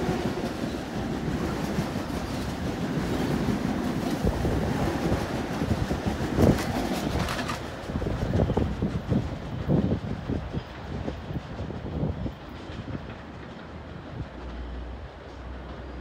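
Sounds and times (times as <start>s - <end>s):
train rolling past rumble: 0.0s - 16.0s.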